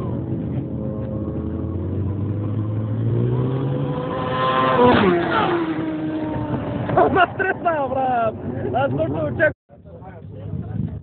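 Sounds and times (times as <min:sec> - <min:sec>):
racing motorcycles passing: 0:00.0 - 0:09.5.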